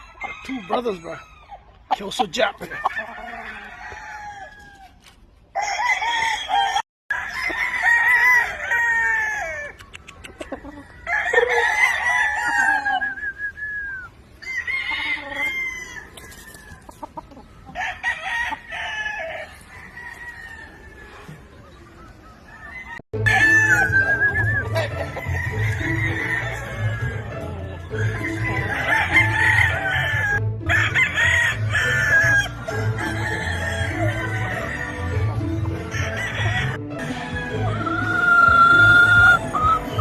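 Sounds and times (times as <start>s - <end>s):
roosters crowing: 0.0s - 40.0s.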